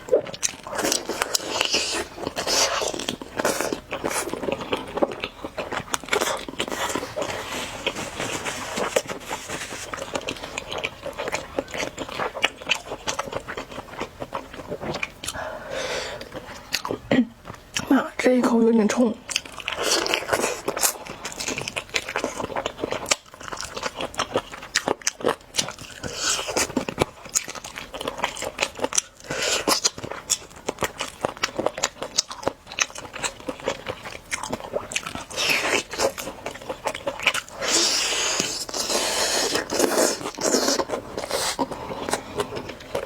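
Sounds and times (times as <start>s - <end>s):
crunchy chewing: 0.0s - 17.9s, 19.2s - 43.0s.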